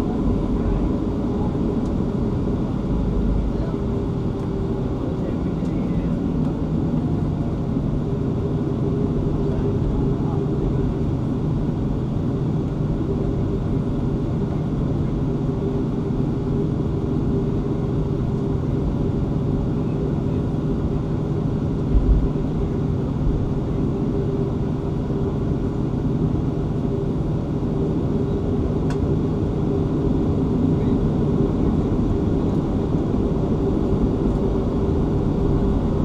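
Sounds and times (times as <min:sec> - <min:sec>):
jet engines droning in cabin: 0:00.0 - 0:36.0.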